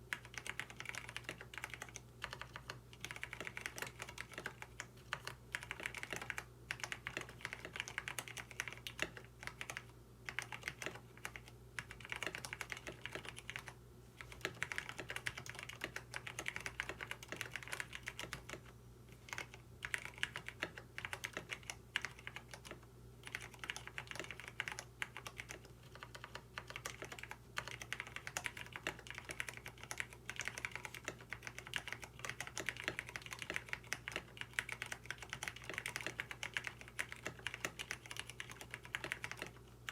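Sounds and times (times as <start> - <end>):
mechanical keyboard typing: 0.1 - 39.9.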